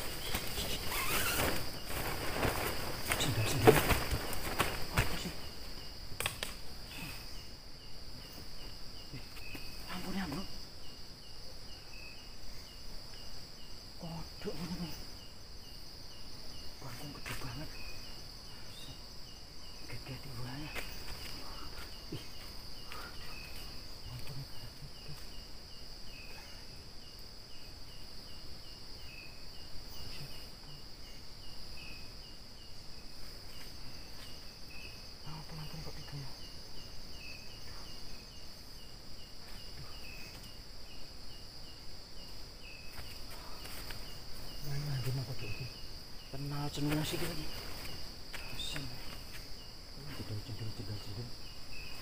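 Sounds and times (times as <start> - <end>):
crickets trilling: 0.0 - 52.0
insect chirping: 0.0 - 52.0.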